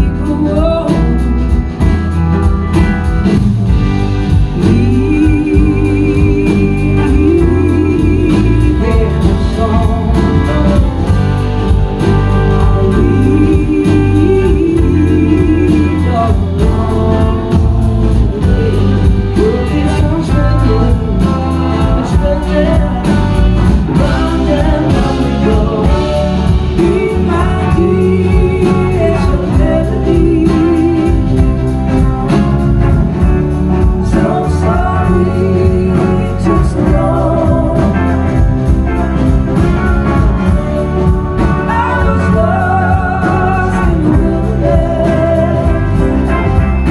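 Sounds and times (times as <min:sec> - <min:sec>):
woman singing: 0:00.0 - 0:01.9, 0:04.3 - 0:32.3, 0:33.2 - 0:39.8, 0:40.4 - 0:46.9
live blues-rock band playing: 0:00.0 - 0:46.9.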